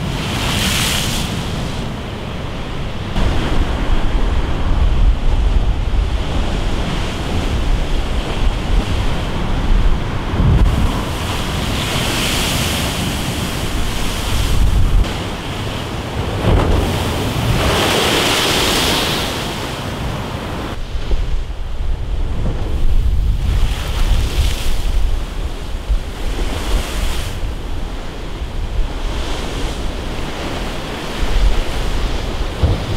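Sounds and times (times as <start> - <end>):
storm waves crashing on sea wall: 0.0 - 32.9
wind rumble on microphone: 0.0 - 32.9.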